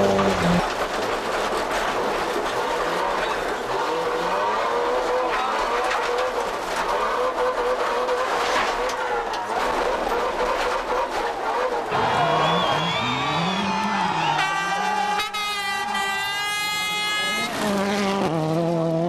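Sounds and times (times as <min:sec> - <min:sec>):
rally car engine revving: 0:00.0 - 0:19.0
tyres skidding: 0:00.0 - 0:19.0.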